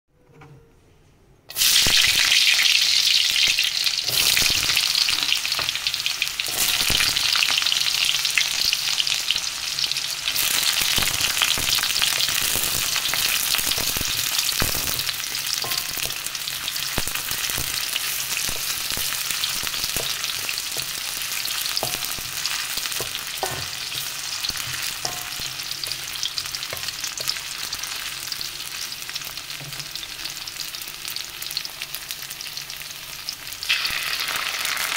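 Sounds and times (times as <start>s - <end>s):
onions sizzling in hot oil: 1.5s - 34.9s.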